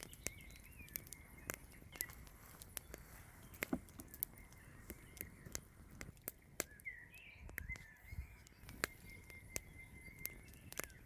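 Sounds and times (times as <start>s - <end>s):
bird chirping: 0.0s - 11.0s
campfire crackling and popping: 0.0s - 11.0s.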